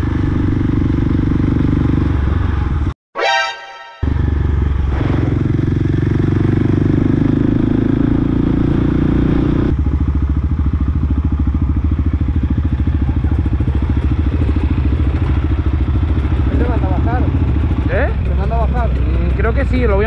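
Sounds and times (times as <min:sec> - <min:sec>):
motorcycle engine running: 0:00.0 - 0:02.9, 0:04.0 - 0:20.0.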